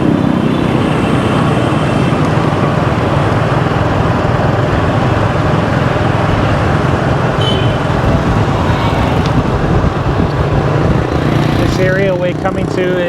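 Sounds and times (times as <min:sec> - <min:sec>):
motorbike engine and road noise: 0:00.0 - 0:13.0.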